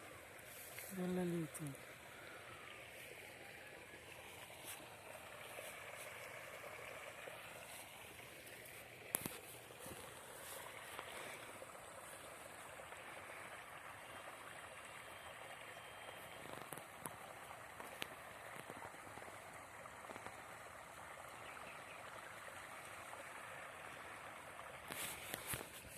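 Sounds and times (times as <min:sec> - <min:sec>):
flowing water: 0:00.0 - 0:25.9.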